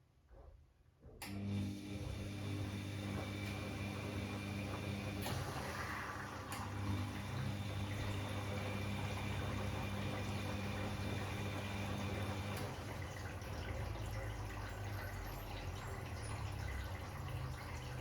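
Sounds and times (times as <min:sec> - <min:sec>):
motor hum: 0:01.3 - 0:18.0
water running into washing machine: 0:01.4 - 0:18.0.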